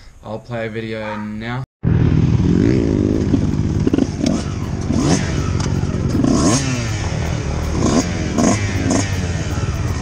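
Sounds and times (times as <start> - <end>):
dirt bike engine revving: 1.8 - 10.0.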